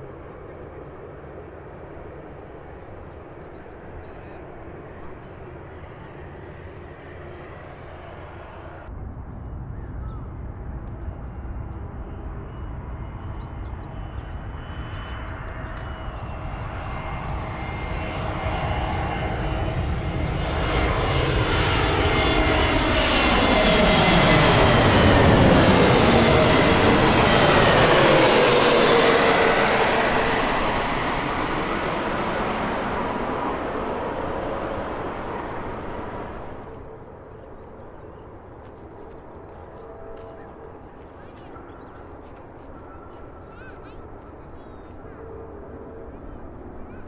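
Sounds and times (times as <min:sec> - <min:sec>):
jet airliner engines passing: 0:00.0 - 0:08.9, 0:14.0 - 0:47.0.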